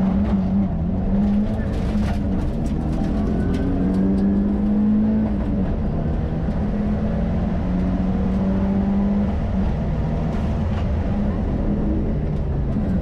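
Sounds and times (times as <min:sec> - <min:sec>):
car engine accelerating hard: 0:00.0 - 0:13.0
tyre and road noise: 0:00.0 - 0:13.0.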